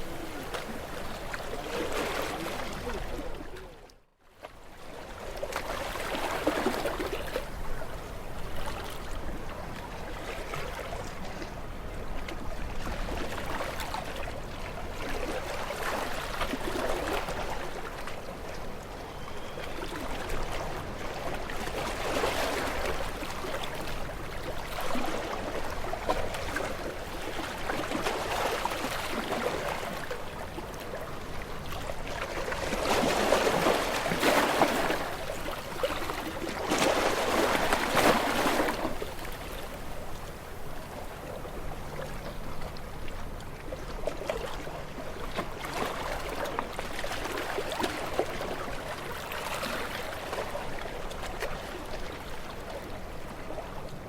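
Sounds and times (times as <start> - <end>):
gentle waves lapping on shore: 0.0 - 54.0.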